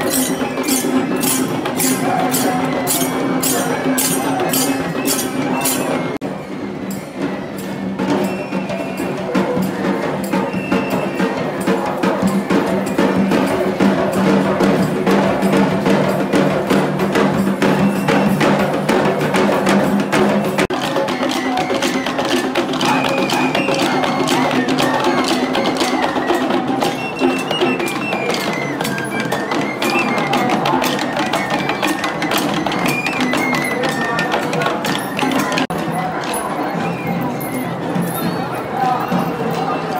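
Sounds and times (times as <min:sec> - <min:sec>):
drums beating fast: 0:00.0 - 0:39.9
wind instrument long notes: 0:00.0 - 0:39.9.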